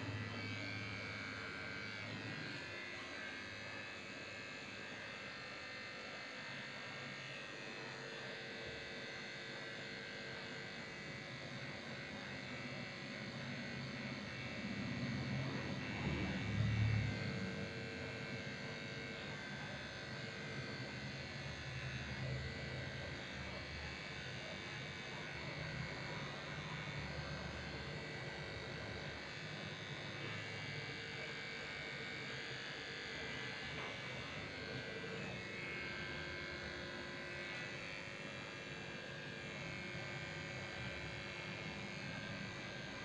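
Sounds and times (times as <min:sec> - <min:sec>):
electric clippers buzzing: 0:00.0 - 0:43.0.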